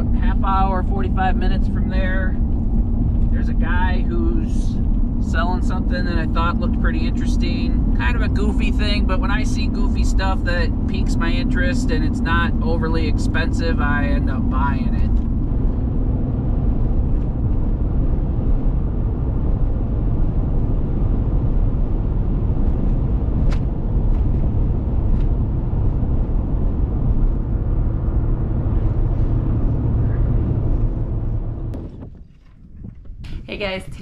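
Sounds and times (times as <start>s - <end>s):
road and engine noise inside truck: 0.0s - 34.0s.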